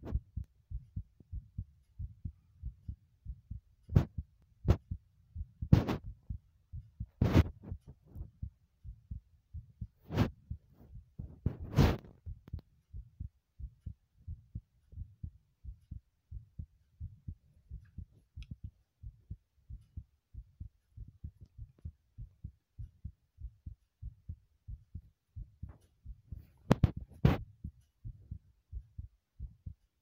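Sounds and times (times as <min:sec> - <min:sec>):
heartbeat thuds: 0:00.0 - 0:29.9.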